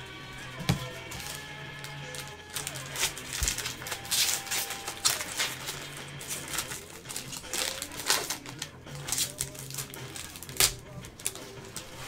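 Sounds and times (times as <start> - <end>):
plastic wrapping crinkling and tearing: 0.8 - 12.0.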